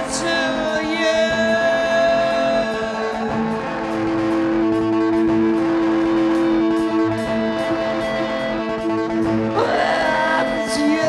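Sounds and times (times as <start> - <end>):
drums: 0.0 - 11.0
electric guitar chords: 0.0 - 11.0.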